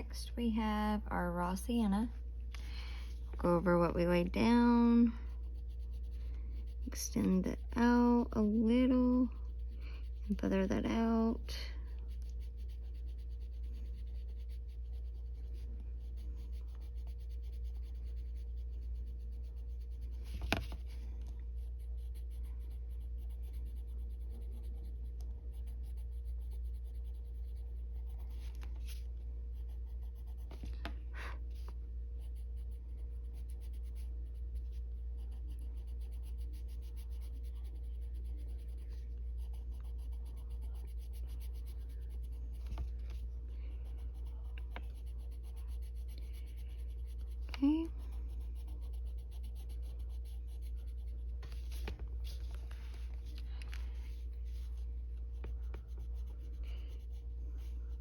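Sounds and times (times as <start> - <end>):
steady low hum: 0.0 - 58.0
pencil scratching on paper: 3.4 - 58.0.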